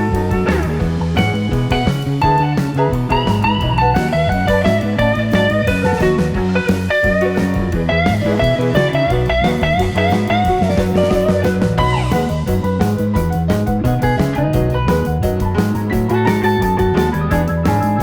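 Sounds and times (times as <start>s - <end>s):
blues-rock guitar music: 0.0s - 18.0s.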